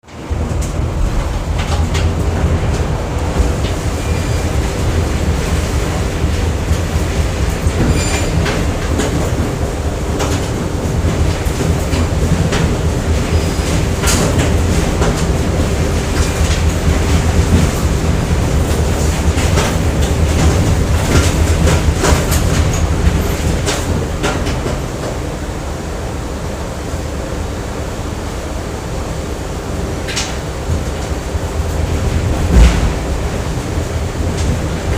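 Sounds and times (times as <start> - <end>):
heavy machinery rumble: 0.0 - 34.9.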